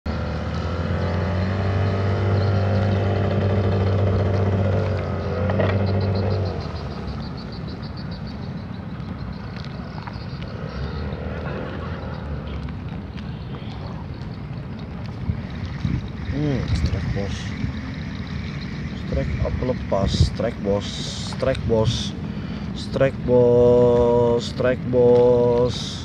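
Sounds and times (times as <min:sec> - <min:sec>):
engine humming: 0:00.1 - 0:26.0.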